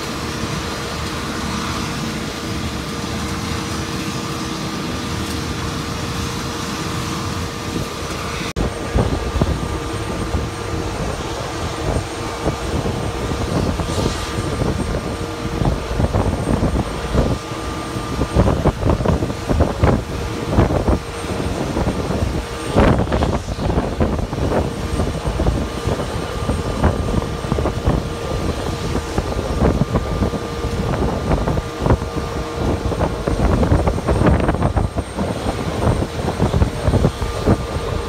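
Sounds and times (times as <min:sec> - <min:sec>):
jet engines idling: 0:00.0 - 0:38.0
wind buffeting the microphone: 0:00.0 - 0:38.0.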